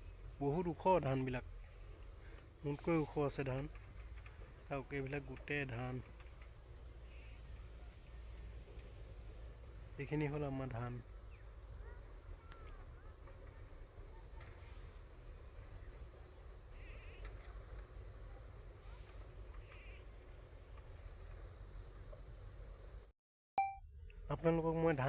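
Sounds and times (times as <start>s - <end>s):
insects trilling: 0.0s - 23.1s, 23.9s - 25.0s.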